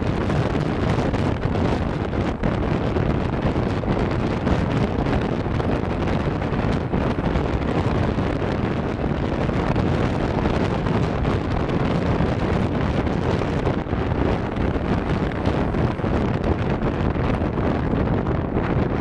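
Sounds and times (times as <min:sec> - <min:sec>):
road noise: 0:00.0 - 0:19.0
wind noise on microphone: 0:00.0 - 0:19.0.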